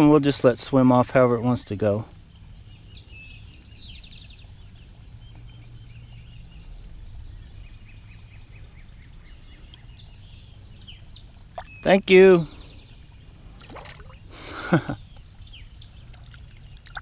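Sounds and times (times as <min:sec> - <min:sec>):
birds chirping: 0:00.0 - 0:17.0
low background rumble: 0:00.0 - 0:17.0.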